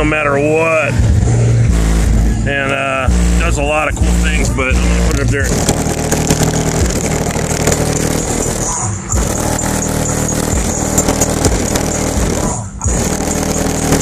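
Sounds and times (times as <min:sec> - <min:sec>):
bass-heavy music through subwoofers: 0:00.0 - 0:14.0.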